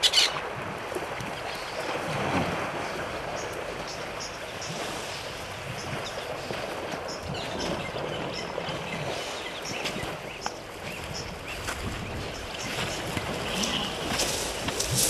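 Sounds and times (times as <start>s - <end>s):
elephants splashing in water: 0.0s - 15.0s
wind on microphone: 0.0s - 15.0s.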